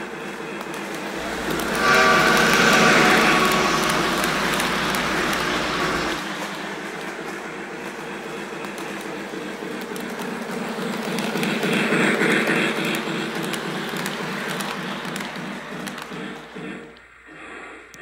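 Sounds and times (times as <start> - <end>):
toy train running on track: 0.0 - 18.0.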